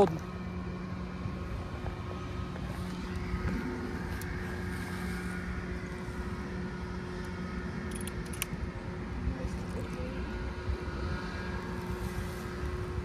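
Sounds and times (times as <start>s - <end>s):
mechanical hum with held tones: 0.0s - 13.0s.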